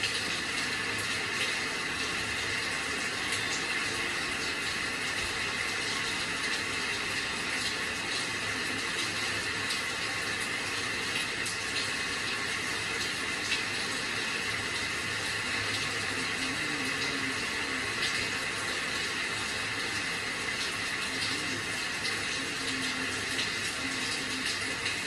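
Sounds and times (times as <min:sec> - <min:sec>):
faint ticks of raindrops: 0:00.0 - 0:25.0
steady rain hiss: 0:00.0 - 0:25.0.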